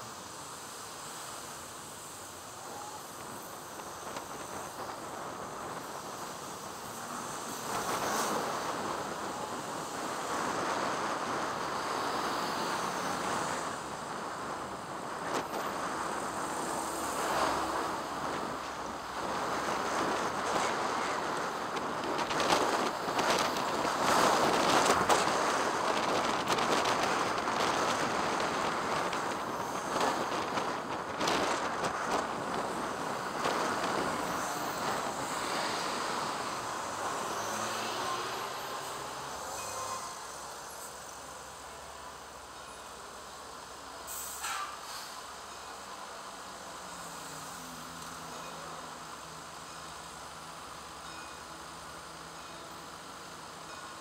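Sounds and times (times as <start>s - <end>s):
wind and road rushing hiss: 0.0s - 54.0s.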